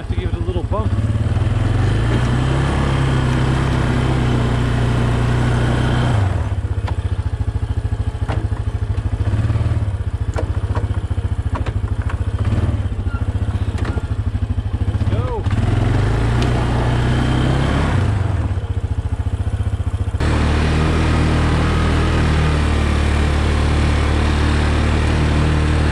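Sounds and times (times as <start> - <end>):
atv engine running under load: 0.0 - 25.9.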